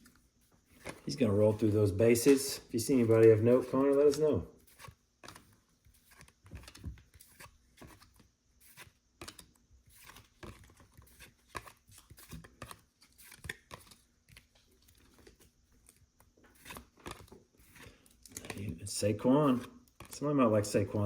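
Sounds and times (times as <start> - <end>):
trading cards being flipped: 0.0 - 18.8.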